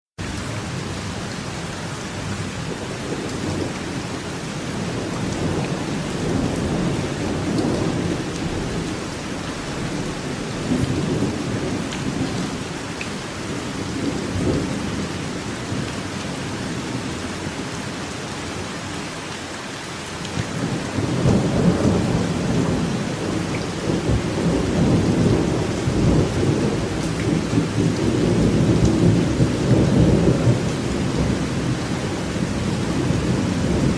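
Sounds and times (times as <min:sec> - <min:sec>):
rain falling in forest: 0:00.2 - 0:33.9.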